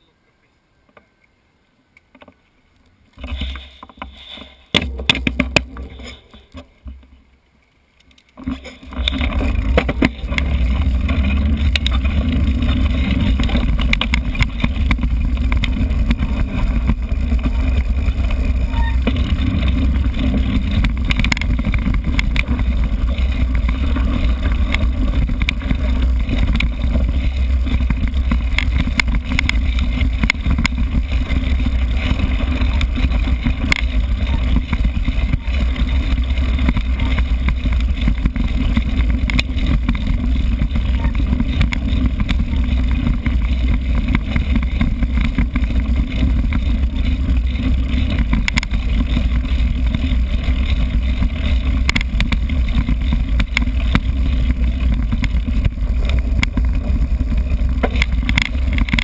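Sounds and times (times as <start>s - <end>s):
tyres rolling on dirt track: 3.1s - 59.0s
bike rattles and knocks: 3.2s - 7.2s, 8.0s - 59.0s.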